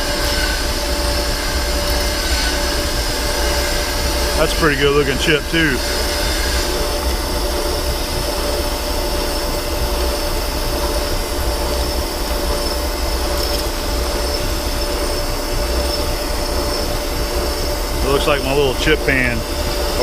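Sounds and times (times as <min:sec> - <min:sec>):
metal lathe cutting with whine: 0:00.0 - 0:20.0.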